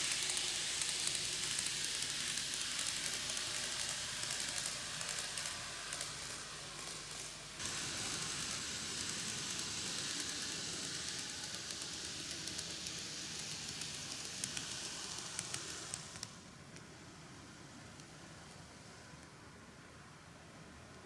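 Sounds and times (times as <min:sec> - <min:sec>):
model train whirring: 0:00.0 - 0:19.5.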